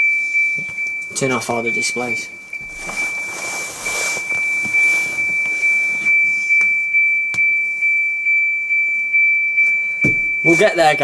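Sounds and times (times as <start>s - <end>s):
pulsing electronic warning beeper: 0.0s - 11.0s.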